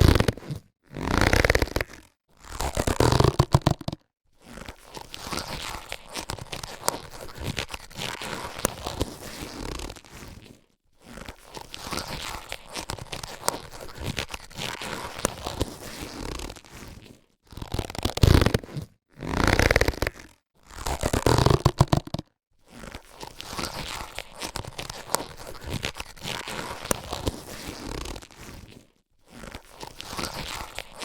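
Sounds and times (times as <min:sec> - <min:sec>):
latex gloves stretched and rubbed: 0:00.0 - 0:31.0.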